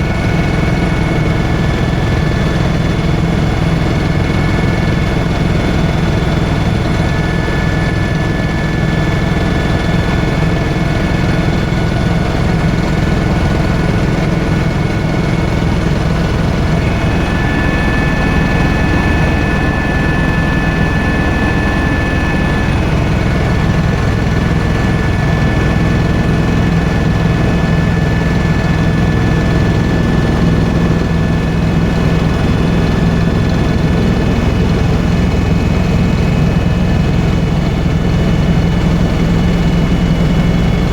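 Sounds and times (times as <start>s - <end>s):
helicopter engine and rotor: 0.0s - 40.9s
high turbine whine: 0.0s - 40.9s.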